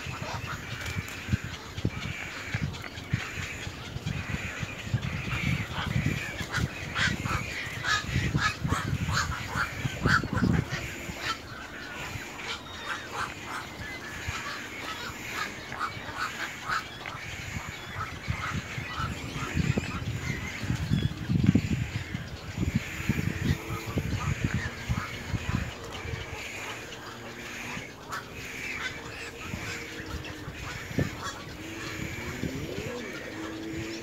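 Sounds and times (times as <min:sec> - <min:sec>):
birds giving sharp calls: 0:00.0 - 0:34.0.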